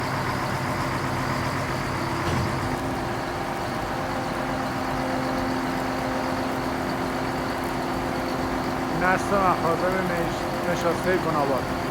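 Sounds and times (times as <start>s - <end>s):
heavy vehicle engine running: 0.0s - 11.9s.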